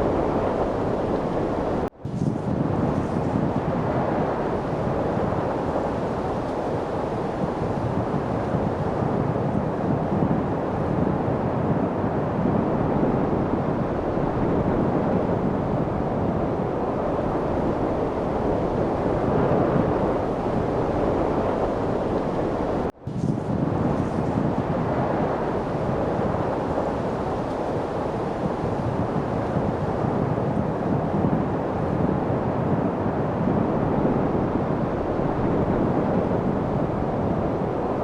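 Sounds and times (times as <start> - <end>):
rushing wind: 0.0 - 38.0.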